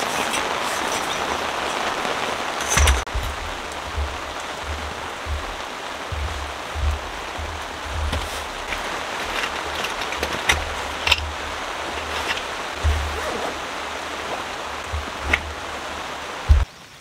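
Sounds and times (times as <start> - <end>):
rain on a tent: 0.0 - 17.0
fabric rustling and light clicks: 2.6 - 16.6.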